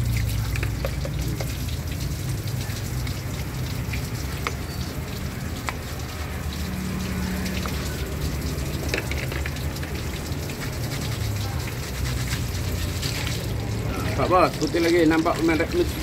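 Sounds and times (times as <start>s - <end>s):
water running from hose: 0.0s - 16.0s.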